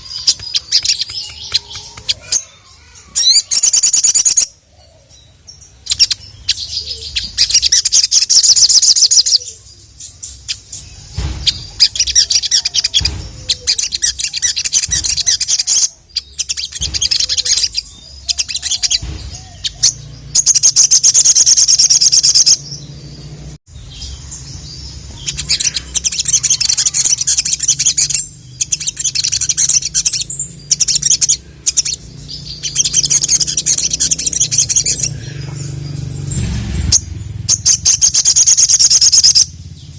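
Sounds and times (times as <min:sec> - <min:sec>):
bird twittering trills: 0:00.0 - 0:39.9.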